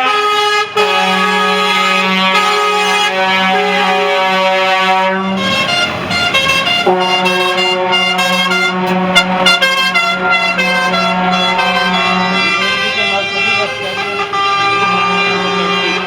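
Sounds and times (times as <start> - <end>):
truck air horns: 0.0 - 16.0.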